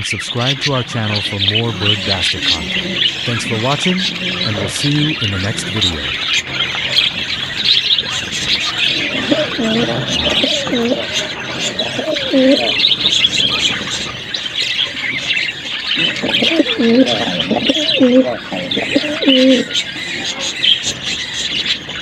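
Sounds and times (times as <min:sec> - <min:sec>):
budgerigars chattering: 0:00.0 - 0:22.0
low dipping bird call: 0:00.9 - 0:20.6.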